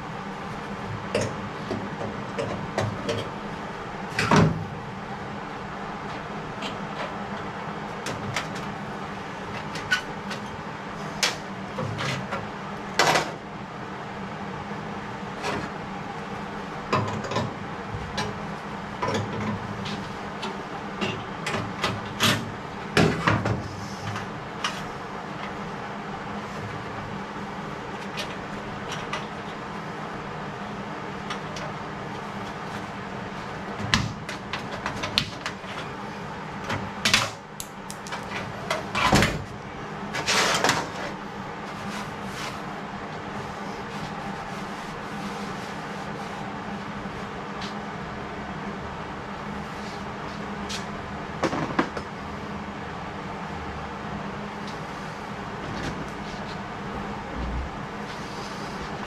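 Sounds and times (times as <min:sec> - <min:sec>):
steady low hum: 0:00.0 - 0:51.4, 0:52.0 - 0:59.0.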